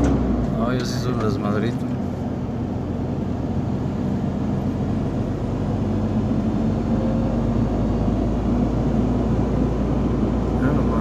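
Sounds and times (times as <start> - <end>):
road noise: 0.0 - 11.0
truck engine running: 0.0 - 11.0.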